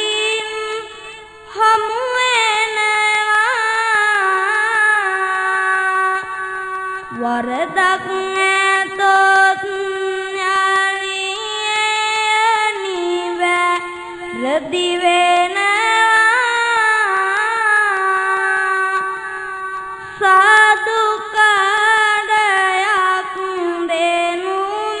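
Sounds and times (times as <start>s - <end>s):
boy singing a slow chant: 0.0s - 25.0s.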